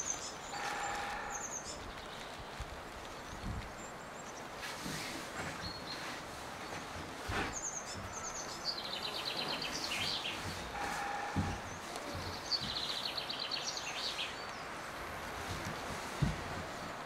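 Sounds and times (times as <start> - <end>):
songbird singing: 0.0 - 17.0
woodland background hiss: 0.0 - 17.0.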